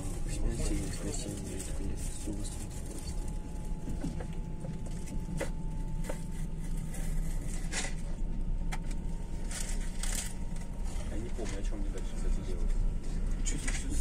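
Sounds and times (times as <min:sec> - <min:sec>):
train carriage rumble: 0:00.0 - 0:14.0.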